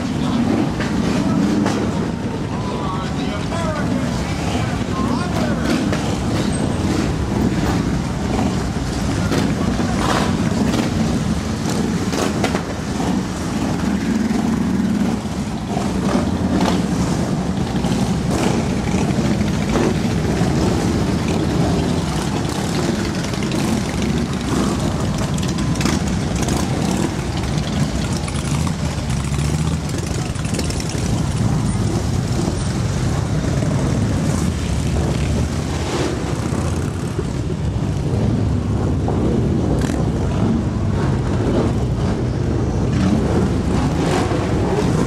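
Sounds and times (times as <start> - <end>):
motorcycles riding past: 3.6 - 45.0.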